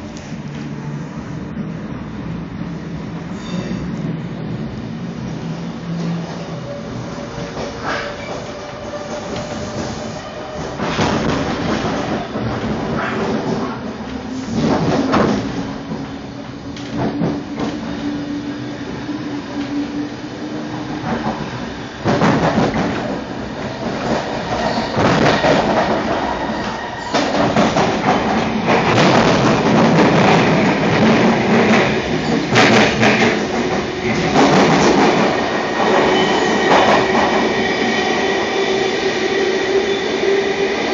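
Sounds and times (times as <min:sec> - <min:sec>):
train wheels on rails: 0:00.0 - 0:40.9.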